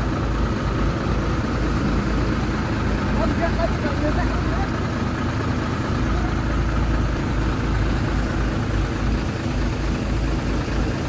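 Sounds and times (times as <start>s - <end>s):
heavy diesel engine rumbling: 0.0s - 11.0s.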